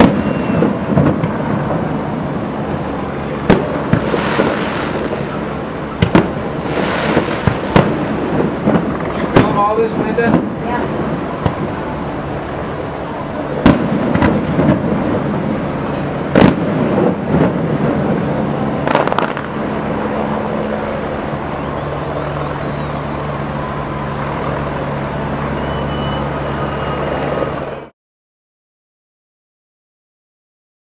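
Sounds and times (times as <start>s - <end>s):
fireworks booming and cracking: 0.0s - 27.9s
steady background hum: 0.0s - 27.9s.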